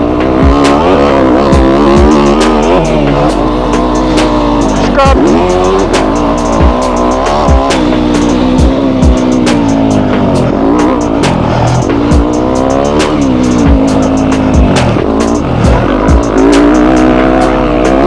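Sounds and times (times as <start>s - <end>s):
low thumps: 0.0s - 18.0s
motorcycle engine revving: 0.0s - 18.0s
sharp clicks: 0.6s - 18.0s.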